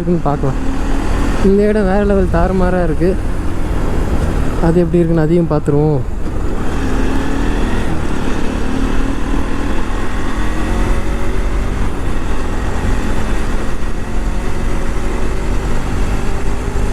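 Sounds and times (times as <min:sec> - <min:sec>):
motorcycle engine running: 0:00.0 - 0:05.4, 0:06.0 - 0:16.9
wind on microphone: 0:00.5 - 0:16.9.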